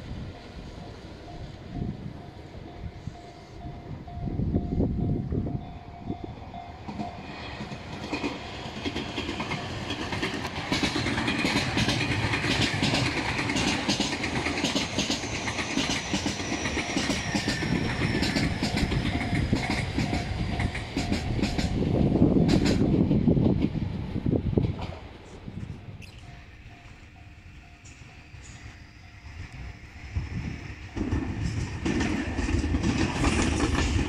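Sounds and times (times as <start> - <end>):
high train whine: 0.0 - 34.0
train wheels clacking over rails: 6.0 - 34.0.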